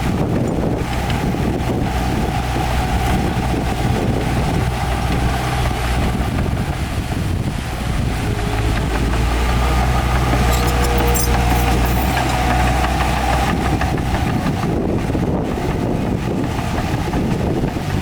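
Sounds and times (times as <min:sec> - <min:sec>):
heavy machinery diesel engine: 0:00.0 - 0:18.0
wind on microphone: 0:00.0 - 0:18.0.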